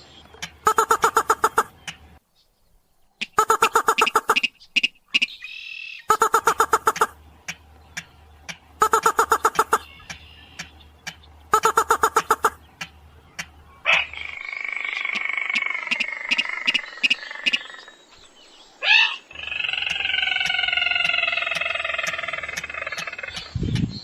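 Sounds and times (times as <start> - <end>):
recorded rail bird call: 0.0 - 24.0
steady continuous bird call: 0.0 - 24.0.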